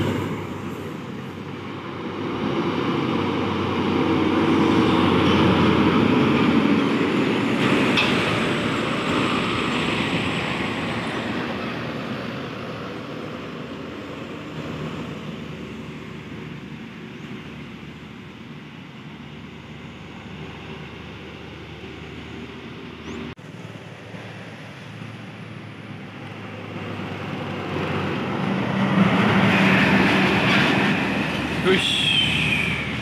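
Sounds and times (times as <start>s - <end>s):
truck diesel engine passing: 0.0s - 33.0s.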